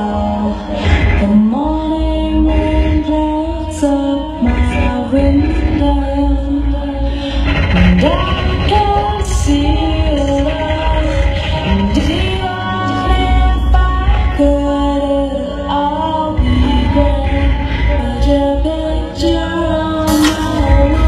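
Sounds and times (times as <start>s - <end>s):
gliding vocal melody: 0.0s - 21.0s
heavy bass line: 0.0s - 21.0s.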